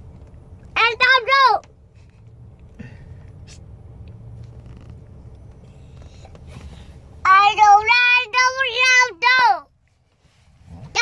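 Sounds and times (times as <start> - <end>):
faint vehicle cabin rumble: 0.0 - 11.0.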